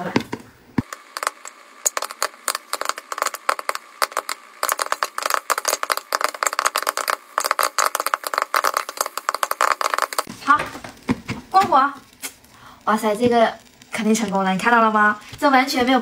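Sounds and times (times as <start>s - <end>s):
popcorn kernels popping: 0.0s - 16.0s.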